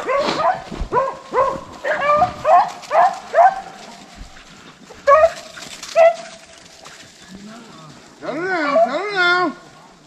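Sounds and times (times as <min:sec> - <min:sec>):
hounds baying: 0:00.0 - 0:07.4, 0:08.1 - 0:09.8.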